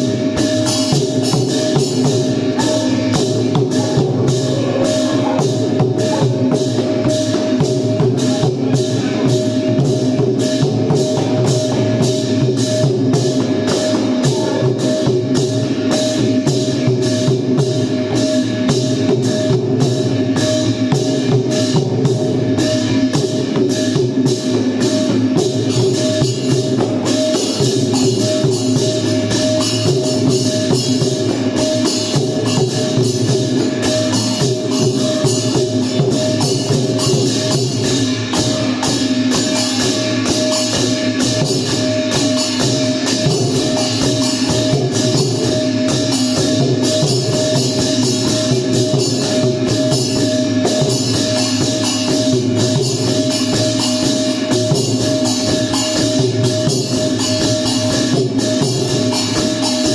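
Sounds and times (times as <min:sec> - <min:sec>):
drum ensemble playing: 0:00.0 - 0:59.9
hand cymbals jingling: 0:00.0 - 0:59.9
steady held tone: 0:00.0 - 0:59.9.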